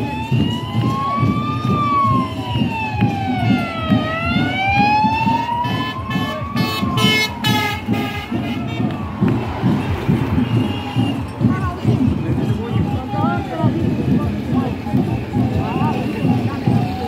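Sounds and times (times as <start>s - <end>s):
police siren wailing: 0.0s - 14.2s.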